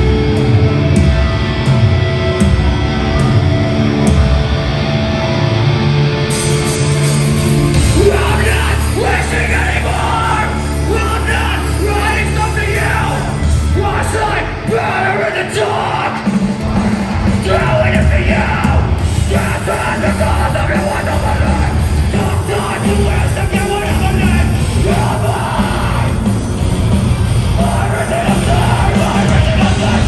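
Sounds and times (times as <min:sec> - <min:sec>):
heavy band distorted chords: 0:00.0 - 0:30.0.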